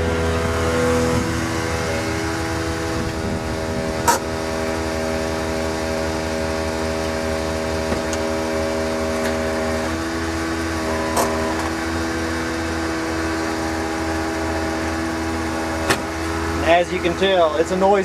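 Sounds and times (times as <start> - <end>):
air compressor running: 0.0 - 18.0.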